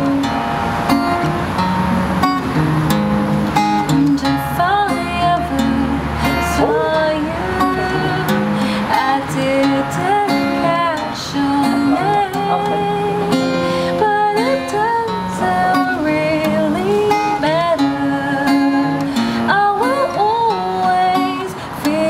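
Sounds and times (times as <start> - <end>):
acoustic guitar strumming: 0.0 - 22.0
person singing: 3.9 - 22.0.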